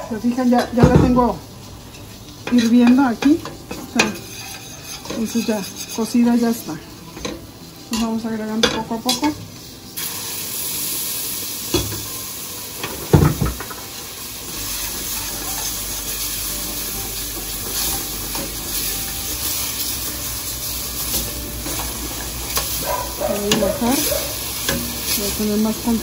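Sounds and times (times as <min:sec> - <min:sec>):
sauce sizzling and bubbling: 0:00.1 - 0:26.0.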